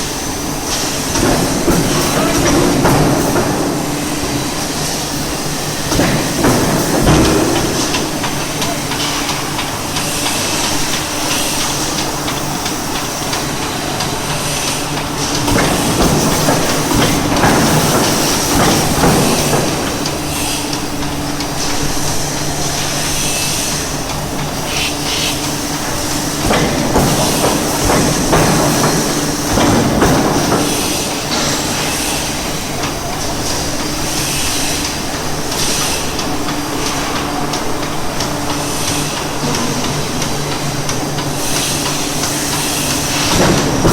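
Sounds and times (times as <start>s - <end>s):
forging press machine hum: 0.0s - 43.9s.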